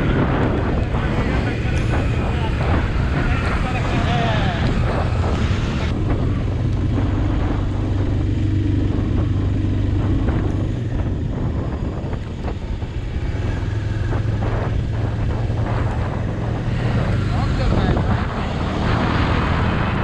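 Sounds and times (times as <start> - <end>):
motorcycle engine running: 0.0 - 20.0
wind rushing over microphone: 0.0 - 20.0.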